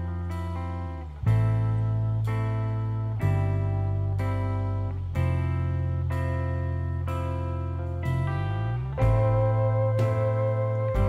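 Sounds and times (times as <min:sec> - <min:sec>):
low bass: 0:00.0 - 0:11.0
strummed guitar chords: 0:00.0 - 0:11.0.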